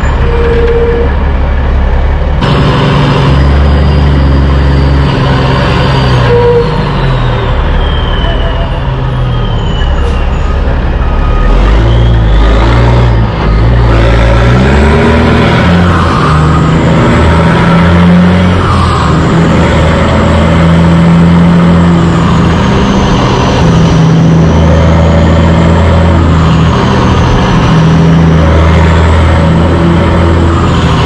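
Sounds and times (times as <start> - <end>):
road noise: 0.0 - 31.0
truck diesel engine under load: 0.0 - 31.0.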